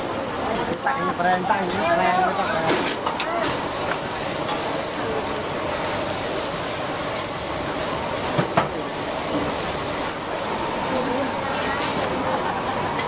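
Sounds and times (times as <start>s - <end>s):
seafood sizzling on grill: 0.0s - 13.0s.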